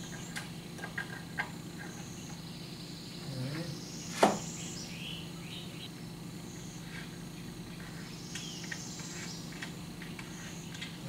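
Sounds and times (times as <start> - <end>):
birds chirping: 0.0 - 11.0
insects chirping: 0.0 - 11.0
low steady hum: 0.0 - 11.0.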